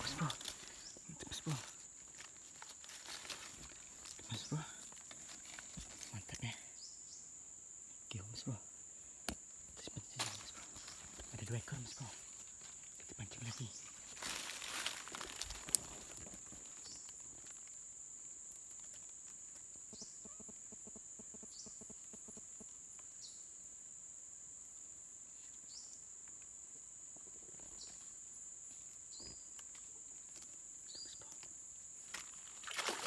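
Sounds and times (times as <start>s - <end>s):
insects buzzing: 0.0s - 33.0s.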